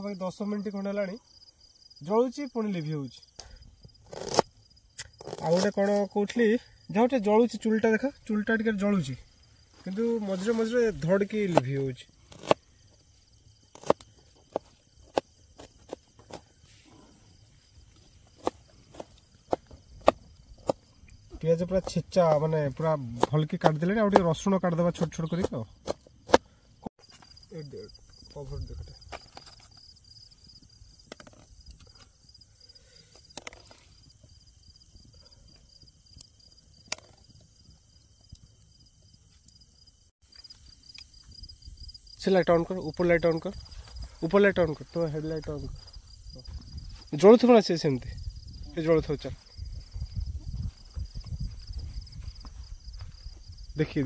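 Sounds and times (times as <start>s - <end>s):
night insects trilling: 0.0s - 54.0s.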